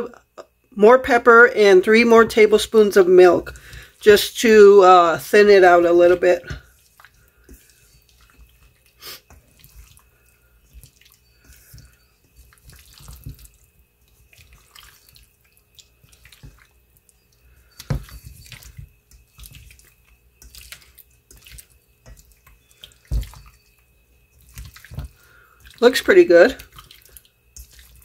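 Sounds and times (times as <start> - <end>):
wet squishing: 1.9 - 28.0.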